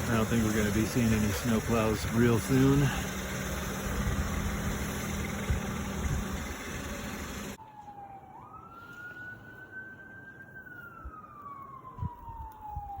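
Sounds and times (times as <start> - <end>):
distant siren wailing: 0.0 - 13.0.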